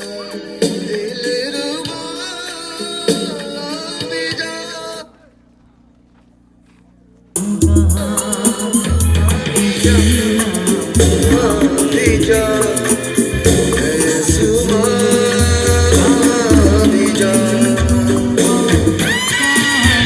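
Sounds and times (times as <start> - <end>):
loud music with singing and bass: 0.0 - 5.1, 7.4 - 20.0.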